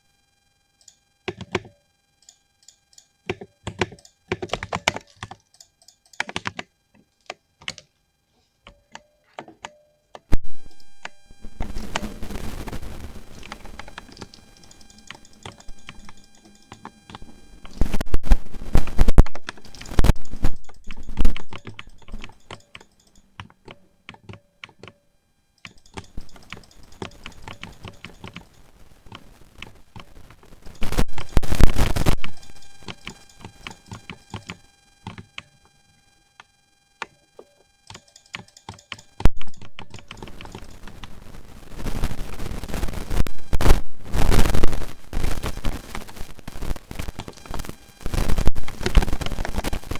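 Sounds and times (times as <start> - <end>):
mechanical keyboard typing: 1.3 - 1.8, 3.3 - 7.9, 8.6 - 25.0, 25.6 - 35.8, 36.4 - 43.8, 44.4 - 49.9.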